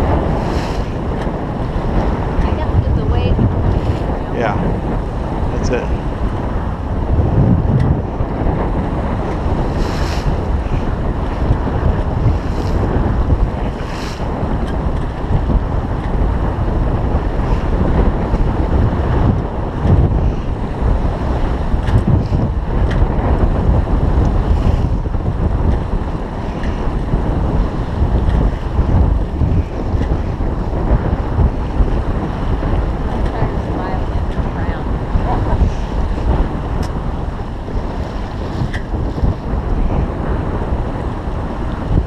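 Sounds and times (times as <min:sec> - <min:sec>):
water rushing along a hull: 0:00.0 - 0:42.0
wind buffeting microphone: 0:00.0 - 0:42.0.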